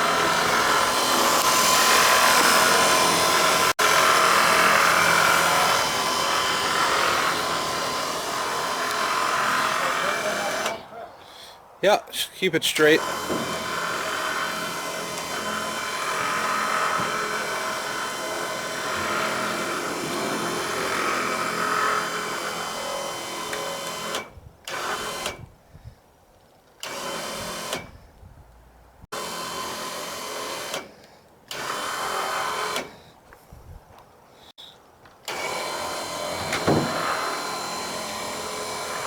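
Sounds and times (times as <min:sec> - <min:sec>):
electric winch motor: 0:00.0 - 0:10.9, 0:13.0 - 0:25.4, 0:26.8 - 0:27.9, 0:29.2 - 0:33.0, 0:35.2 - 0:39.0.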